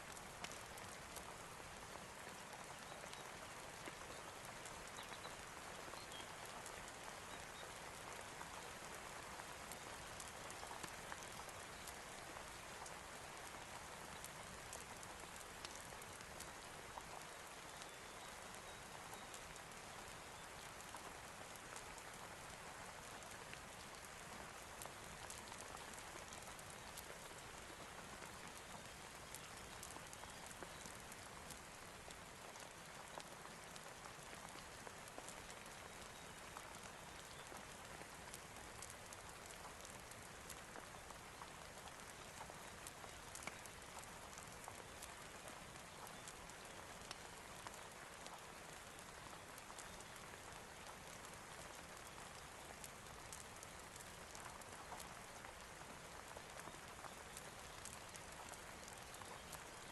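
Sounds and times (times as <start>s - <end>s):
small raindrop clicks: 0.0s - 59.9s
steady rain falling: 0.0s - 59.9s.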